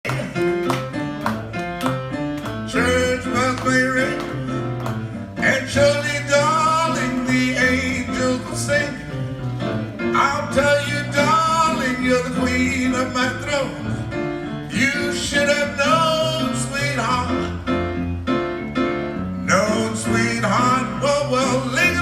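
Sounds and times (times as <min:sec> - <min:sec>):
live band doo-wop song with guitar: 0:00.1 - 0:22.0.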